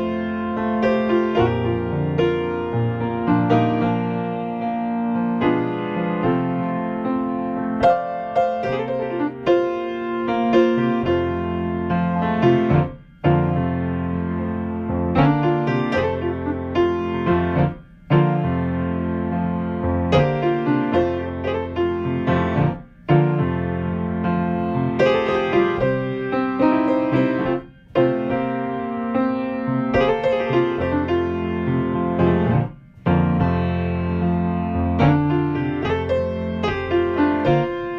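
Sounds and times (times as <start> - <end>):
solo piano music: 0.0 - 37.9.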